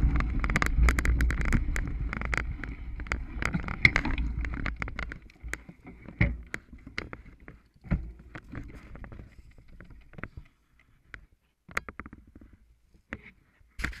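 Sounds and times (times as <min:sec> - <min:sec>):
bike clicks and knocks: 0:00.0 - 0:14.0.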